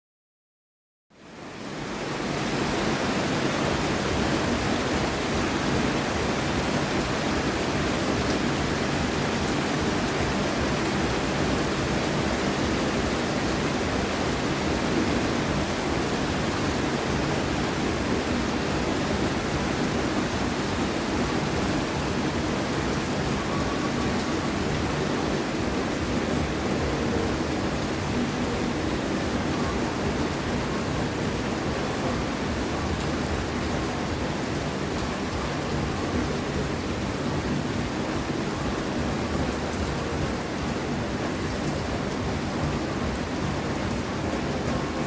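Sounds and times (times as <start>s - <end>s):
steady rain hiss: 1.1s - 45.0s.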